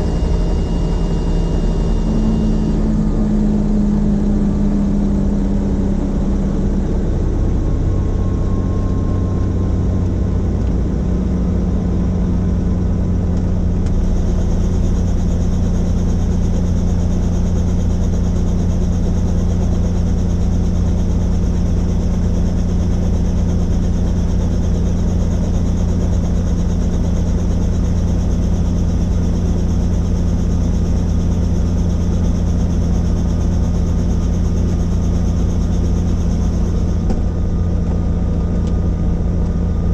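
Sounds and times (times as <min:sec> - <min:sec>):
helicopter rotor and engine drone: 0:00.0 - 0:39.9
high turbine whine: 0:00.0 - 0:39.9.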